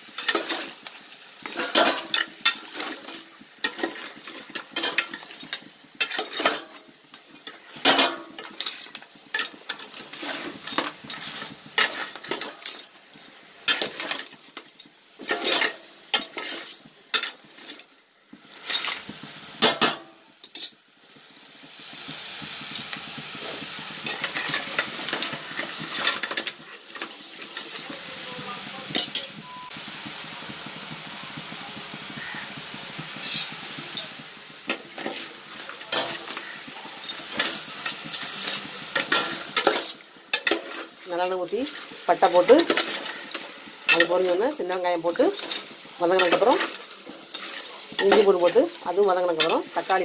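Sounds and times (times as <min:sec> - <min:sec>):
food frying sizzle: 0:00.0 - 0:50.0.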